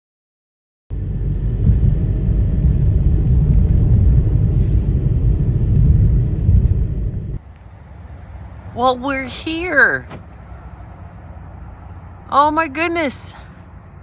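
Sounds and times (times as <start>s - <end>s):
car interior road rumble: 0.9s - 14.0s.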